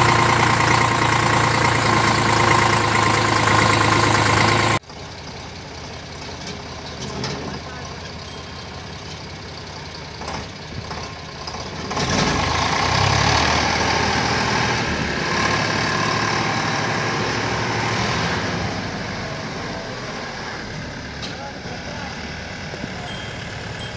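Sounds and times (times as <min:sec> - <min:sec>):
diesel engines running under load: 0:00.0 - 0:23.9.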